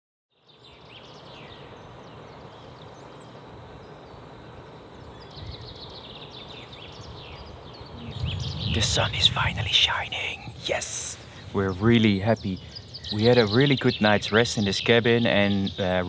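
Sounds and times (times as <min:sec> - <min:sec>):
birds chirping: 0:00.4 - 0:16.0.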